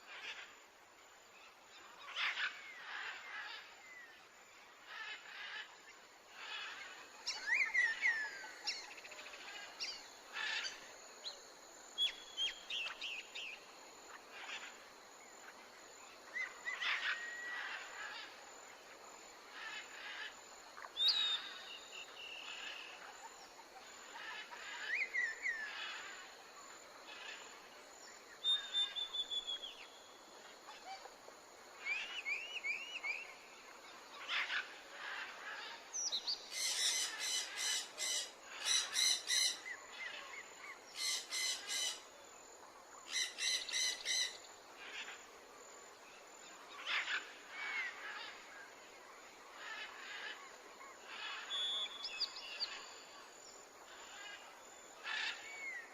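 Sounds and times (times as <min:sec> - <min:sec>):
faint outdoor hiss: 0:00.0 - 0:55.9.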